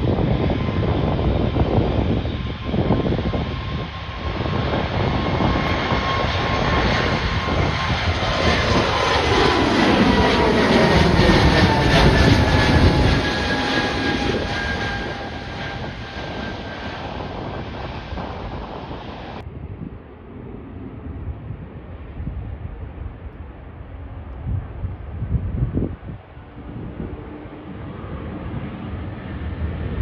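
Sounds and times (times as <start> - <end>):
airliner passing by: 0.0 - 30.0.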